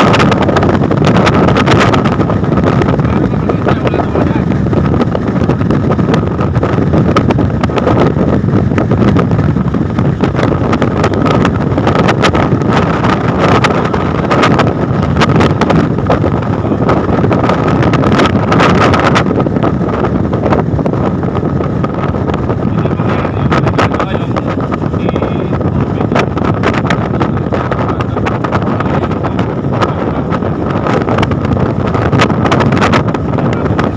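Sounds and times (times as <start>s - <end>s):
car road and engine noise: 0.0s - 33.9s
wind buffeting microphone: 0.0s - 33.9s.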